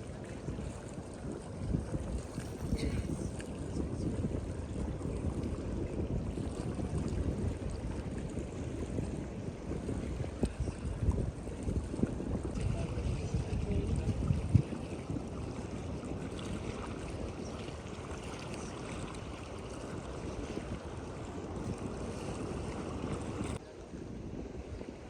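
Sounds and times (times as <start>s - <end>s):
sea noise at shore: 0.0s - 25.0s
wind rumbling on microphone: 0.0s - 25.0s.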